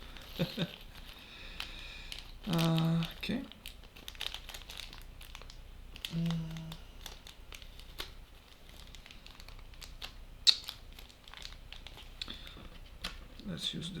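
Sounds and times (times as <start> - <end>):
small parts clicking and crinkling: 0.0 - 13.5.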